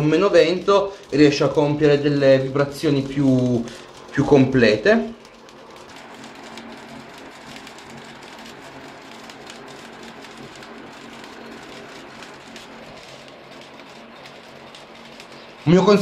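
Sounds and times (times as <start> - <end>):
low hum: 0.0 - 15.8
electric fan rushing: 0.0 - 16.0
tape belt fluttering: 0.0 - 16.0.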